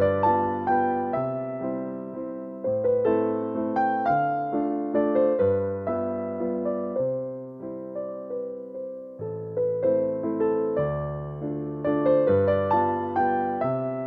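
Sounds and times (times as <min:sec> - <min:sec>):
soft electric piano melody: 0:00.0 - 0:14.0.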